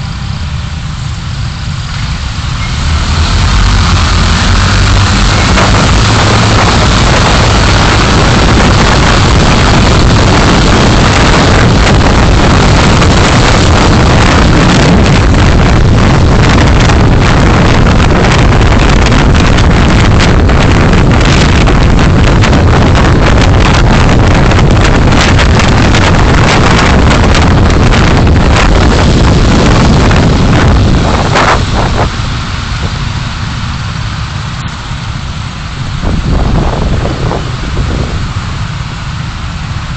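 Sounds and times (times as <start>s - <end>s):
microphone distortion crackle: 0.0s - 39.9s
wind and road noise: 0.0s - 39.9s.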